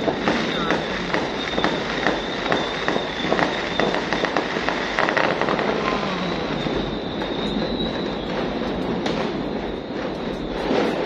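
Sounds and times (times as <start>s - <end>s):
distant fireworks cracking: 0.0s - 11.0s.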